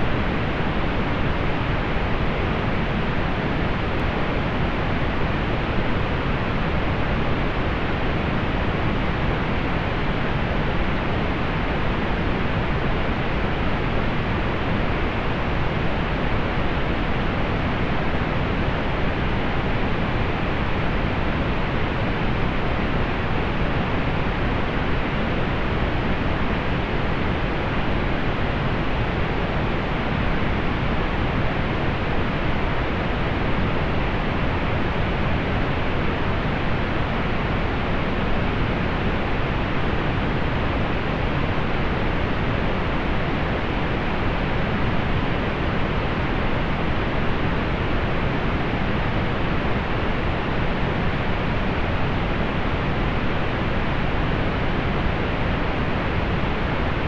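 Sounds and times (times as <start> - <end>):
steady pink noise: 0.0 - 57.0.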